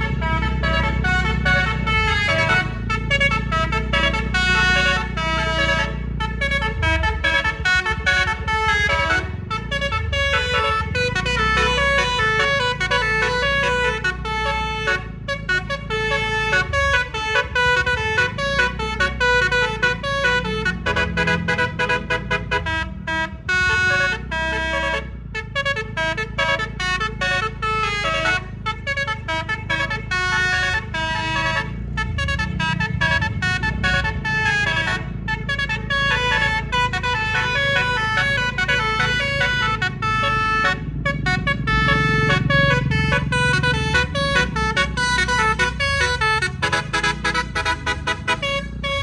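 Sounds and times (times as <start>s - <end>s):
musical air horn tune: 0.0s - 25.0s, 25.6s - 49.0s
diesel bus engine rumble: 0.0s - 49.0s.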